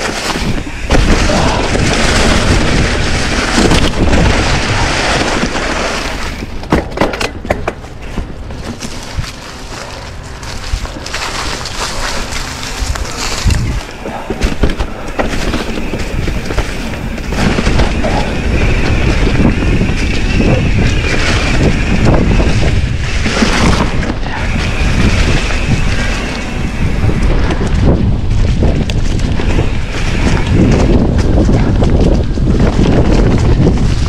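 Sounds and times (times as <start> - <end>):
bike rattling over rocks: 0.0 - 34.0
bike tyre rumble: 0.0 - 34.0
wind buffeting microphone: 0.0 - 34.0.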